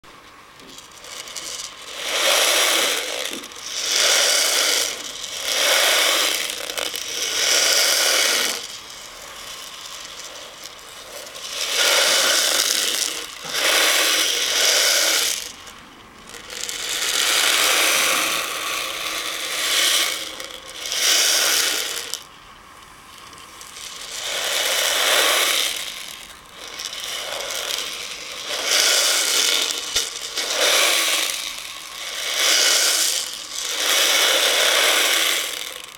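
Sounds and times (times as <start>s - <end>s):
beads rattling in plastic bowl: 0.0s - 22.4s, 23.1s - 35.9s.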